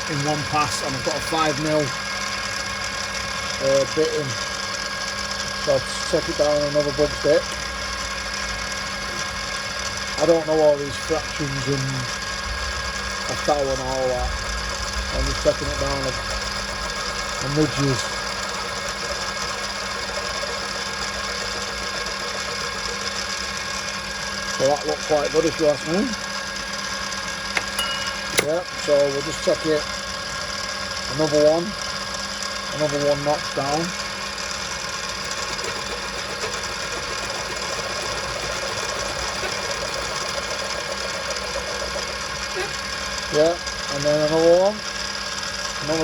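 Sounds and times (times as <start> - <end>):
milling machine humming: 0.0 - 46.0.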